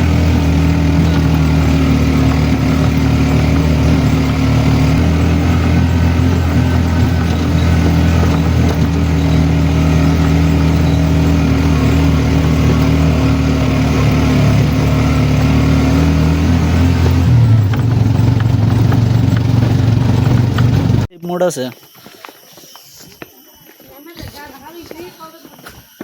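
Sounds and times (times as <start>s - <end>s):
vehicle engine running loudly: 0.0s - 21.1s.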